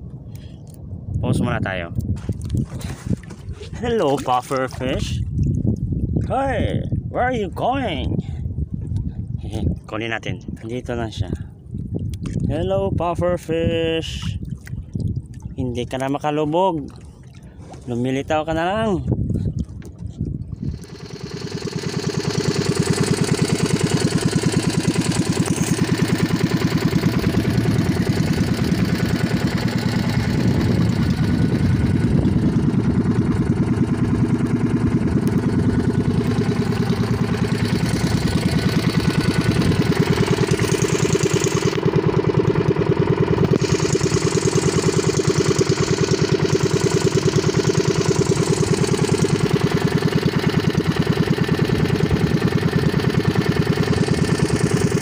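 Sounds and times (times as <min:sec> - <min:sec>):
boat engine running: 0:02.0 - 0:10.9, 0:11.8 - 0:55.0.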